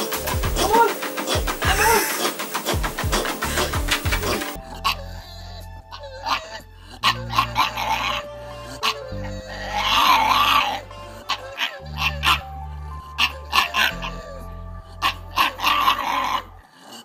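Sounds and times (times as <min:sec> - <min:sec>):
background music with bass: 0:00.0 - 0:16.7.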